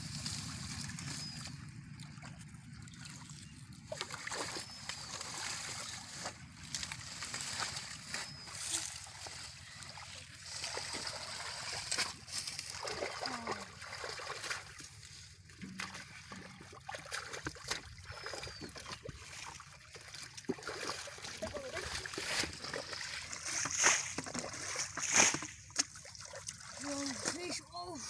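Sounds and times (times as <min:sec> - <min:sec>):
muddy water splashing: 0:00.0 - 0:28.0.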